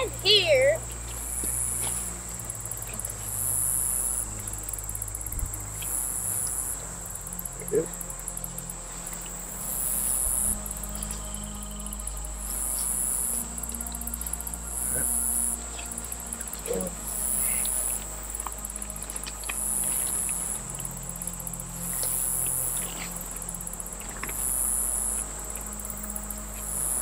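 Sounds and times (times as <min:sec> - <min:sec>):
night insects chirring: 0:00.0 - 0:27.0.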